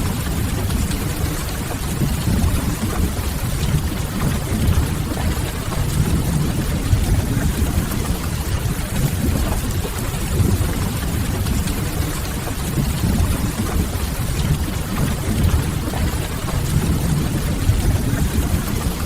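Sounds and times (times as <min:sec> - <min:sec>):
low even rumble: 0:00.0 - 0:19.0
steady rain: 0:00.0 - 0:19.0.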